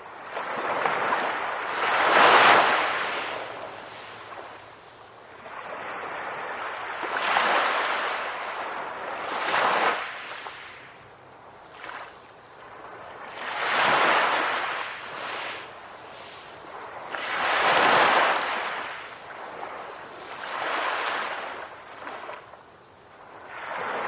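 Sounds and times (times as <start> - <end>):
ocean waves breaking on shore: 0.0 - 24.0.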